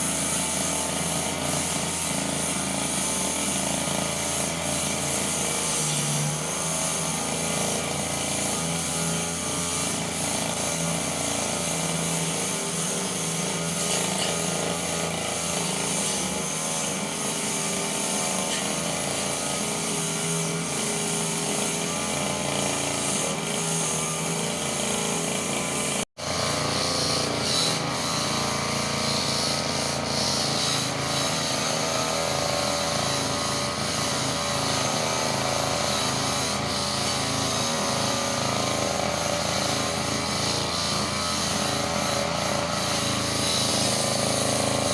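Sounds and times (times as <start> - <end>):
brush cutter engine running: 0.0 - 44.9.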